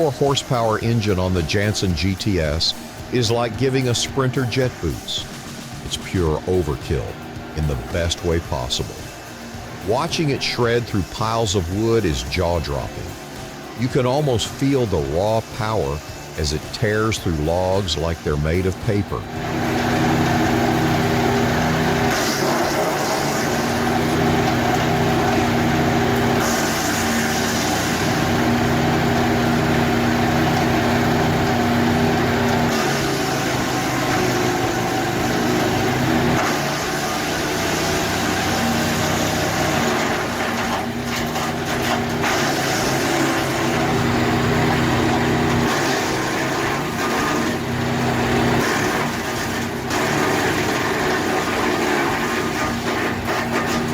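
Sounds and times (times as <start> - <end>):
wood chipper shredding wood: 0.0 - 53.9.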